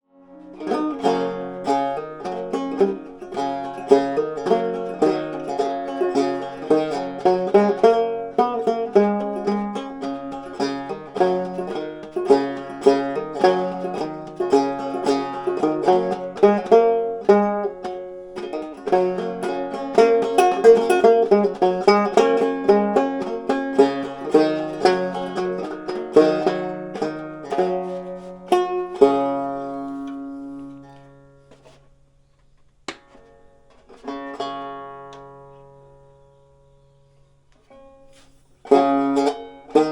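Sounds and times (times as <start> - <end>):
banjo plucked notes: 0.0 - 32.0, 32.9 - 36.8, 37.6 - 39.9.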